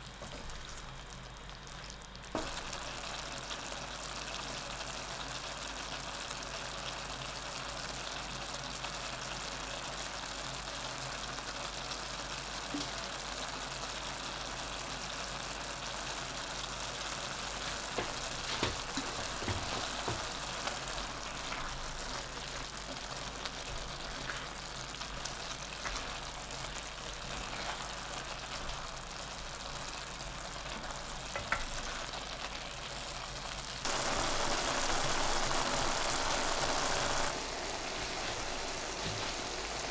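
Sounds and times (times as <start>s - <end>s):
meat and vegetables sizzling in pan: 0.0s - 39.9s.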